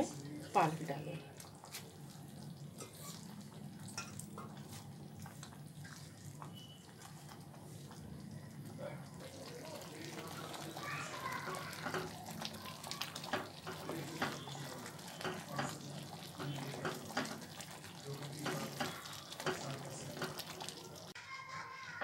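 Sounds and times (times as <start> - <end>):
gravy bubbling: 0.0 - 21.2.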